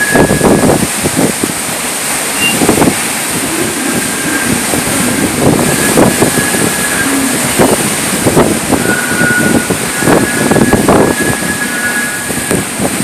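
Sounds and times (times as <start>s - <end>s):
violent wind gusting: 0.0s - 13.0s
wind buffeting microphone: 0.0s - 13.0s.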